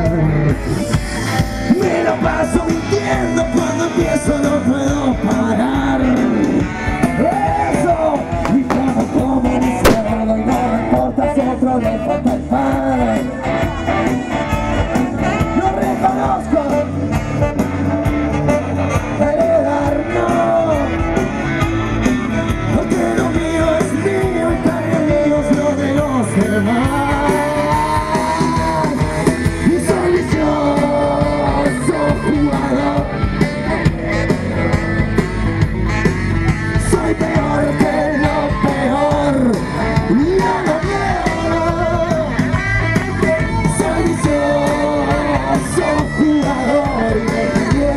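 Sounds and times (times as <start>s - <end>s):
drums: 0.0s - 47.9s
guitars: 0.0s - 47.9s.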